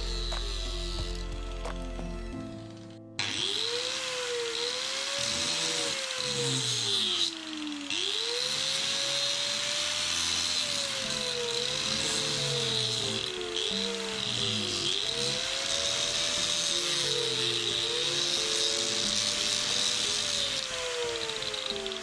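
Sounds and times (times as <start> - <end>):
electric power tool running: 0.0 - 22.0.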